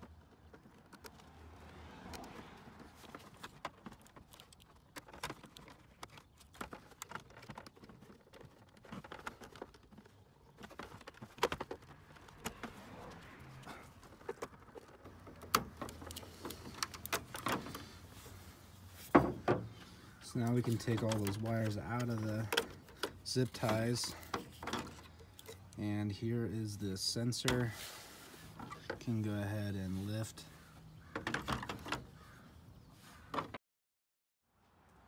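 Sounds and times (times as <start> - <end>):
hard plastic parts clicking: 0.0 - 27.7, 30.6 - 32.4.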